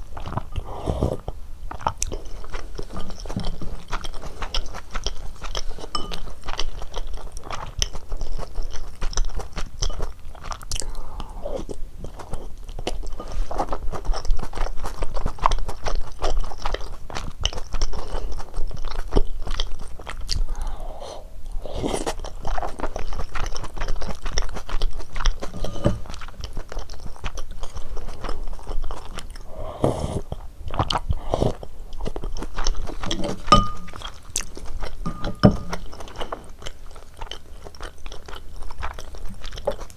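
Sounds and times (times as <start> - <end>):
chewing with small clicks: 0.0 - 20.8, 22.0 - 29.5, 30.2 - 39.9.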